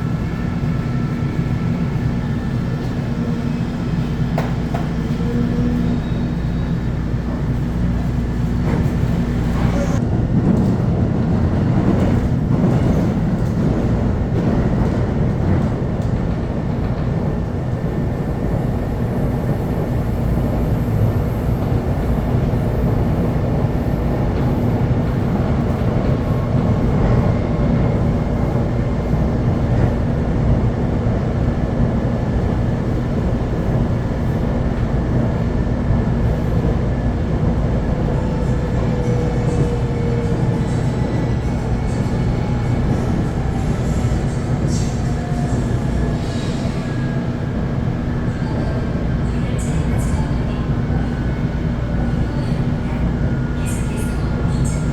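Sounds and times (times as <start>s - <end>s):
train wheels rumbling on track: 0.0s - 54.9s.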